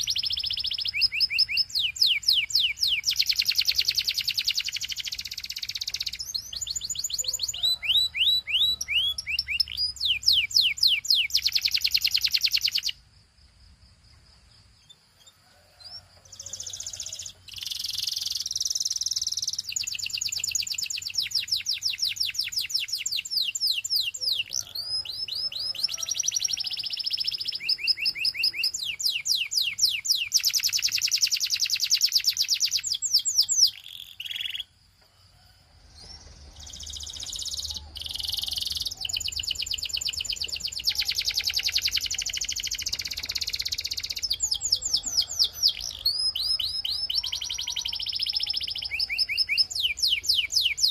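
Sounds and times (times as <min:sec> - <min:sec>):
canary singing trills: 0:00.0 - 0:13.0, 0:14.1 - 0:34.8, 0:36.0 - 0:50.9.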